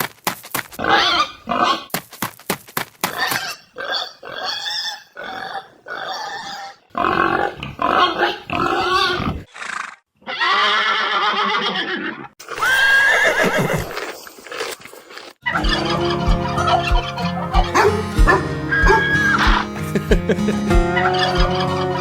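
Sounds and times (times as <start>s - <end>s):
farm animal calls: 0.8s - 1.9s, 3.2s - 13.9s, 15.4s - 22.0s.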